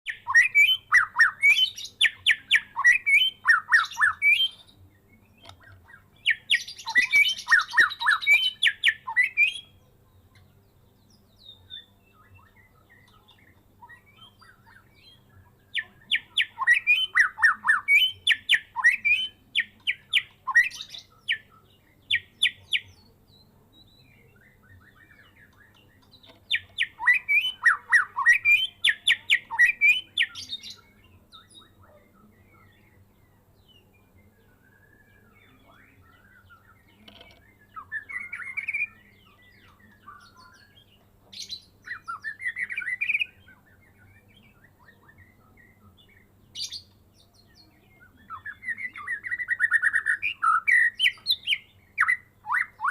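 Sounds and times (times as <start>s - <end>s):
bird singing whistles and trills: 0.1s - 52.9s.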